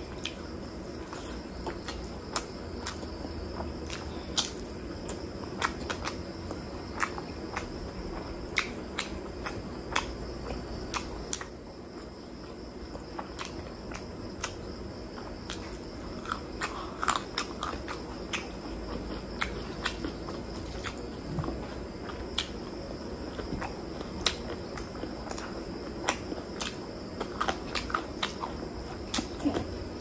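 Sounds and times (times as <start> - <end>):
close chewing: 0.0 - 30.0.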